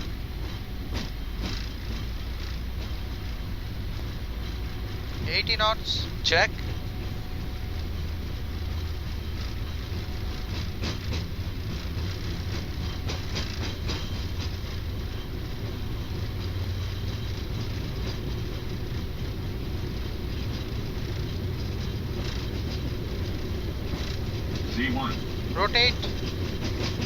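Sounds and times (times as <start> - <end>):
jet engines rumbling: 0.0 - 27.0
wheels on runway: 0.0 - 27.0.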